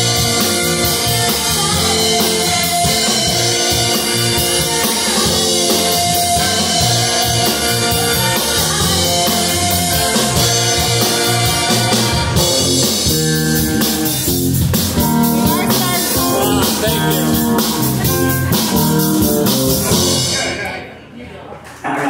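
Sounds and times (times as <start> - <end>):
lead guitar bending notes: 0.0 - 20.6
live rock band playing: 0.0 - 20.8.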